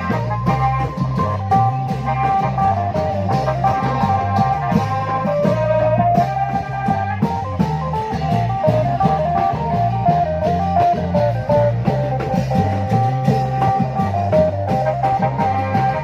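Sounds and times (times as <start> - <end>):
lively procession music: 0.0 - 16.0.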